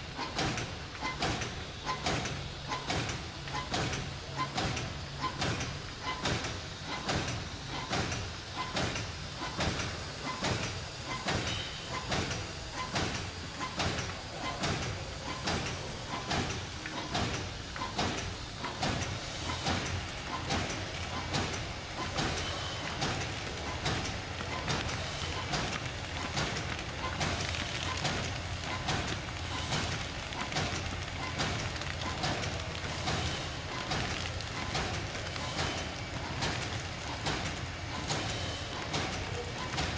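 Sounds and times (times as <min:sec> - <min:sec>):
machine running noise: 0:00.0 - 0:39.9.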